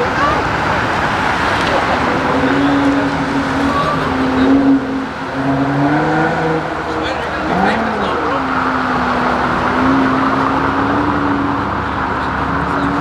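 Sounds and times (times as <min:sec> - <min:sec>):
car engine running: 0:00.0 - 0:13.0
loud noisy background: 0:00.0 - 0:13.0.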